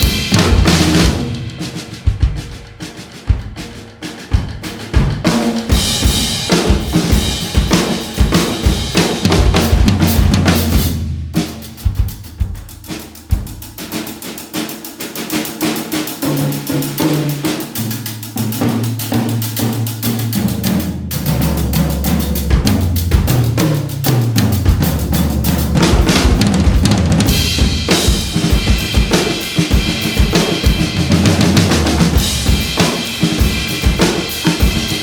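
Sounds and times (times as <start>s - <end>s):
low drums ringing: 0.0s - 13.8s, 18.4s - 35.0s
bass drum and snare groove: 0.0s - 35.0s.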